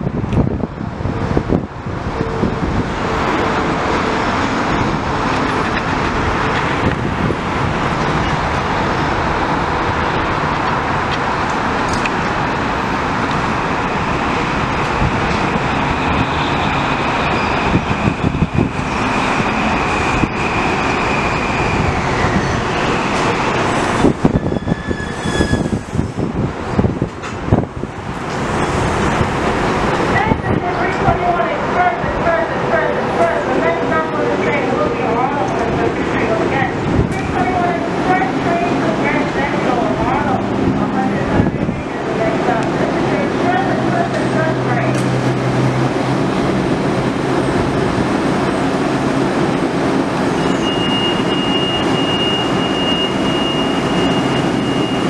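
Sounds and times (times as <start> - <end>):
high train whine: 0.0 - 55.0.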